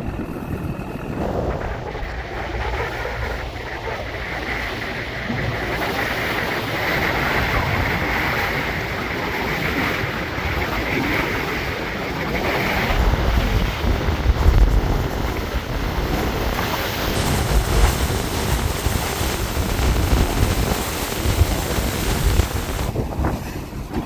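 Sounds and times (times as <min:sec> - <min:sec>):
choppy water splashing: 0:00.0 - 0:24.0
wind buffeting microphone: 0:00.0 - 0:24.0.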